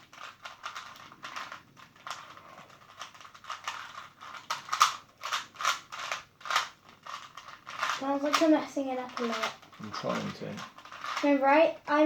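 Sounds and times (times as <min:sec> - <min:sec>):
plastic puzzle cube clicking: 0:00.1 - 0:11.3.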